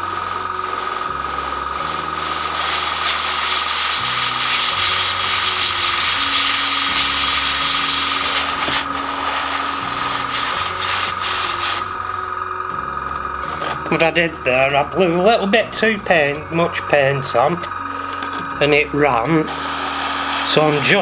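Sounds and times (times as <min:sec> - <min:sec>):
airbrush hissing: 0:00.2 - 0:21.0.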